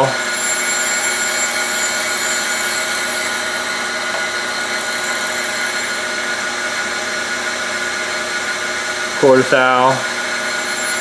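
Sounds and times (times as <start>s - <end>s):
grinder humming: 0.0s - 9.2s, 9.8s - 11.0s.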